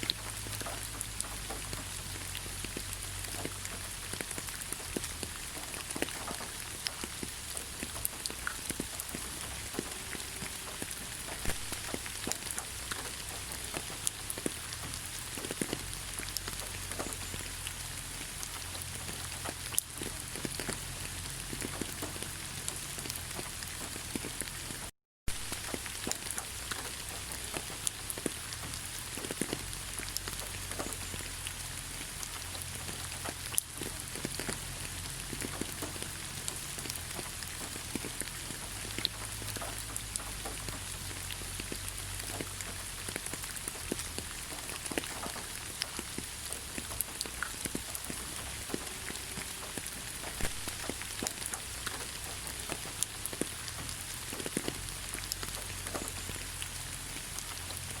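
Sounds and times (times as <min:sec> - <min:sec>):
rain falling in forest: 0:00.0 - 0:58.0
raindrops ticking close by: 0:00.0 - 0:58.0.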